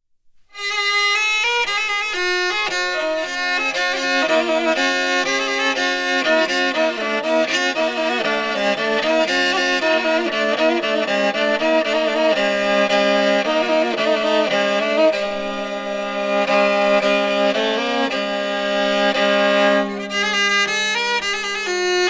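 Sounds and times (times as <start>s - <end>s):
violin melody with accompaniment: 0.5s - 22.0s.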